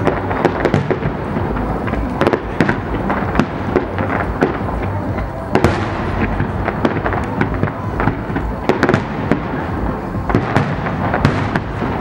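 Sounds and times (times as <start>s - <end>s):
continuous low rumble: 0.0s - 12.0s
fireworks bangs and cracks: 0.0s - 12.0s.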